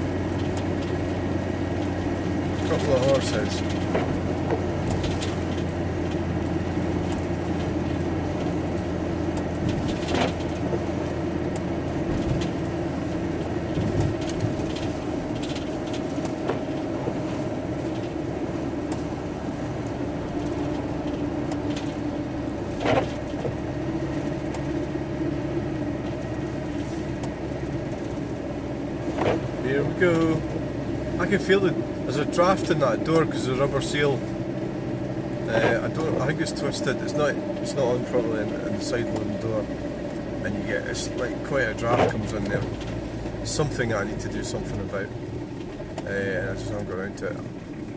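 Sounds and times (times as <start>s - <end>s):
van engine and road drone: 0.0s - 47.9s.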